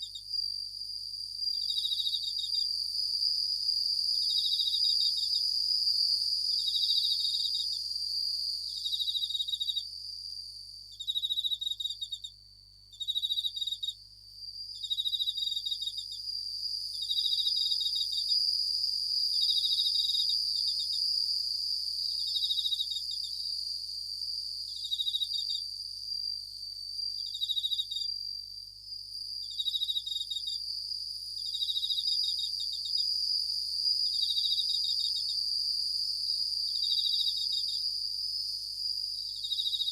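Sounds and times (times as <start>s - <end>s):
bell crickets pulsed ringing trills: 0.0s - 39.9s
continuous high insect trill: 0.0s - 39.9s.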